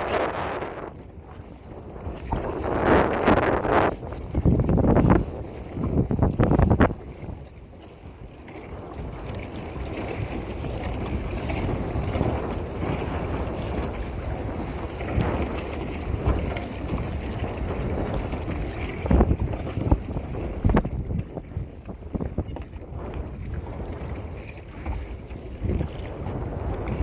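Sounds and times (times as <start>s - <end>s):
water sloshing around kayak: 0.0s - 27.0s
wind buffeting microphone: 0.0s - 27.0s.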